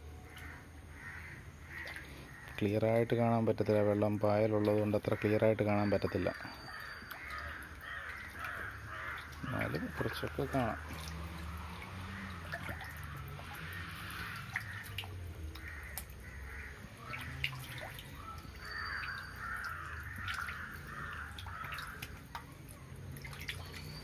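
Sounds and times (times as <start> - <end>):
water dripping into a pond: 0.0 - 24.0
crows cawing: 0.3 - 2.6, 5.2 - 22.3.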